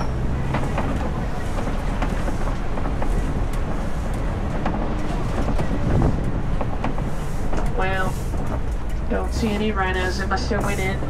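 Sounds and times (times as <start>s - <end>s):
knocks and rattles: 0.0s - 11.0s
truck engine and road rumble: 0.0s - 11.0s.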